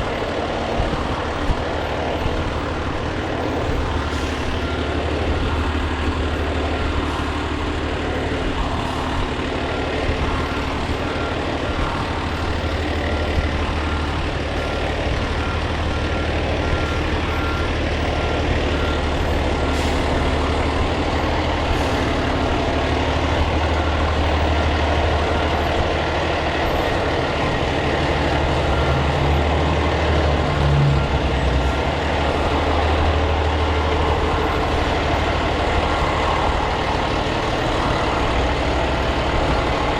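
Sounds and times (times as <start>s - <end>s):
fire truck engine running: 0.0s - 39.9s.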